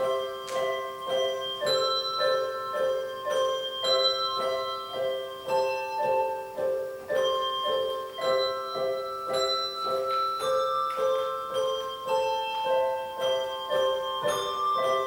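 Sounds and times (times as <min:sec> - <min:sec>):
handbell choir ringing chords: 0:00.0 - 0:15.0.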